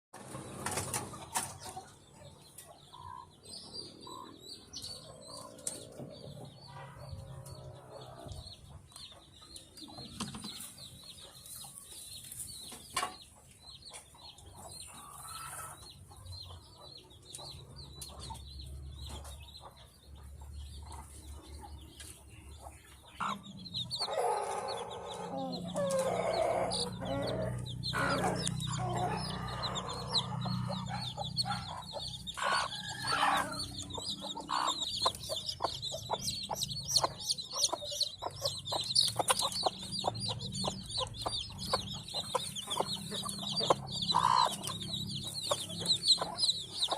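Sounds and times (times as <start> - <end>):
chickens clucking: 0.2 - 46.9.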